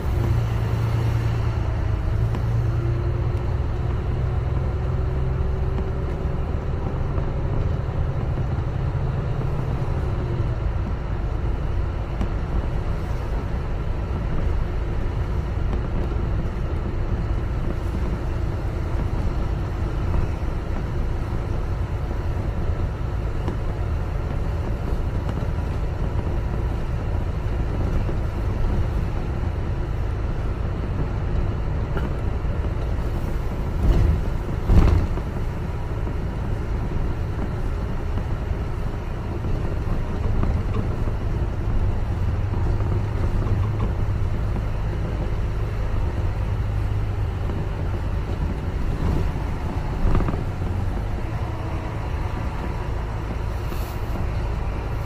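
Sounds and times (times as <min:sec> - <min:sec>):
bus engine and road rumble: 0:00.0 - 0:55.0
low engine hum: 0:00.0 - 0:55.0.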